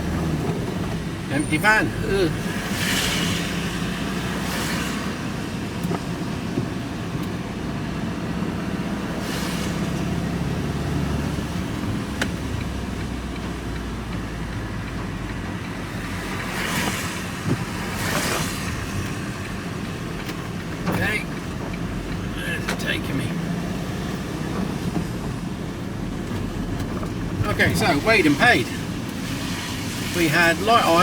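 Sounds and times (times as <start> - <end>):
van engine and tyre rumble: 0.0 - 31.0.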